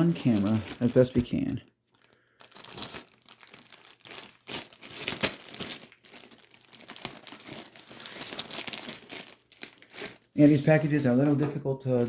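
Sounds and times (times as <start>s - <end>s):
envelope crinkling and tearing: 0.0s - 10.8s.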